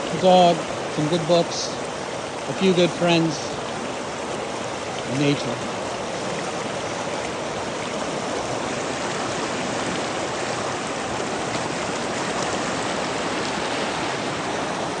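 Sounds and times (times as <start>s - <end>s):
stream flowing steadily: 0.0s - 15.0s.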